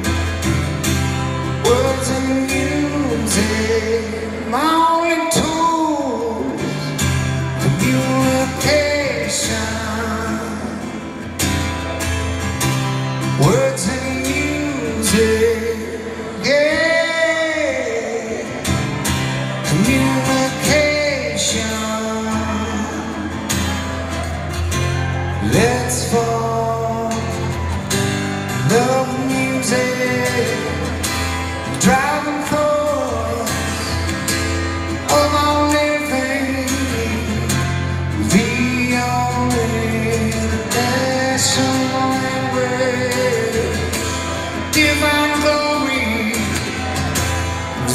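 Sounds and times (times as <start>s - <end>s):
acoustic guitar: 0.0s - 47.9s
man singing: 1.4s - 11.4s, 13.2s - 23.6s, 25.3s - 27.8s, 28.4s - 47.9s.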